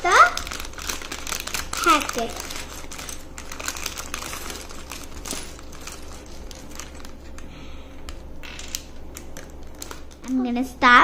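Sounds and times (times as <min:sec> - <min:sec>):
plastic packet crinkling: 0:00.0 - 0:10.6.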